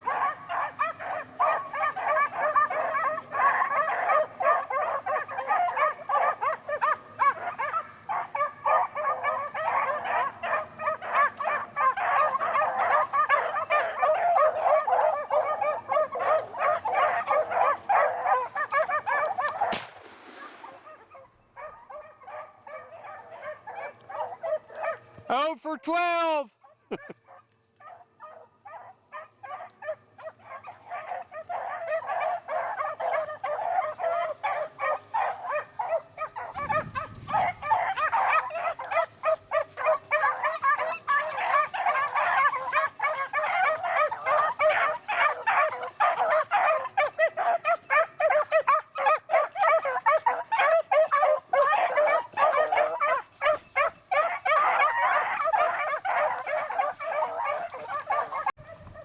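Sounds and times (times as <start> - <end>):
pack of dogs baying: 0.0 - 25.5, 26.2 - 59.0.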